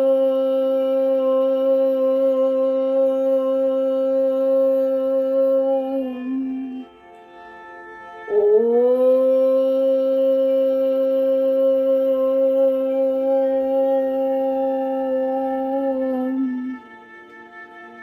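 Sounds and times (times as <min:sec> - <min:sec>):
long held flute-like note: 0:00.0 - 0:18.0.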